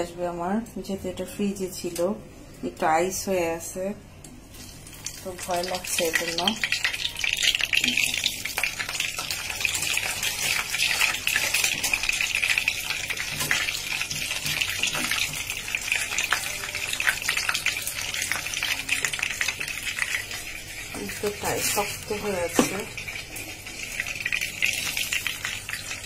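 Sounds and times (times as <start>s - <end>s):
patties sizzling in hot oil: 4.3s - 26.0s.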